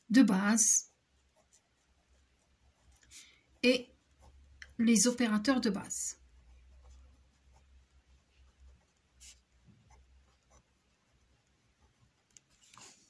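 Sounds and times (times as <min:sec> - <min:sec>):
pen scratching on paper: 0:00.2 - 0:13.0.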